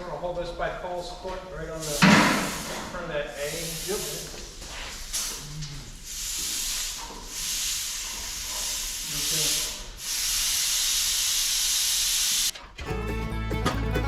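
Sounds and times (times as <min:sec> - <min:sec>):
steady hissing noise: 0:00.0 - 0:12.6.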